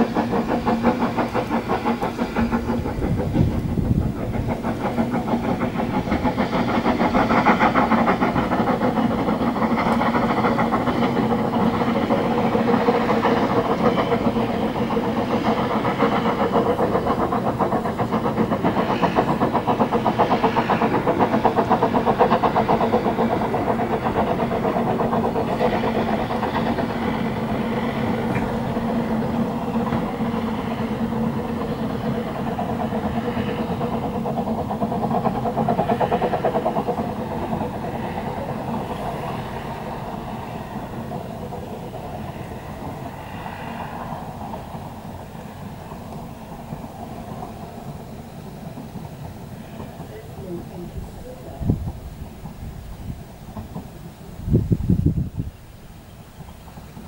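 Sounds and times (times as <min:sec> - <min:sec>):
steam locomotive exhaust beating: 0:00.0 - 0:57.0.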